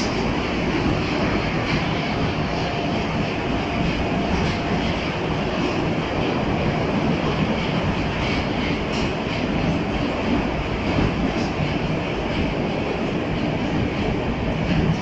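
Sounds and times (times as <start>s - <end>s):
metro train rumbling in tunnel: 0.0s - 15.0s.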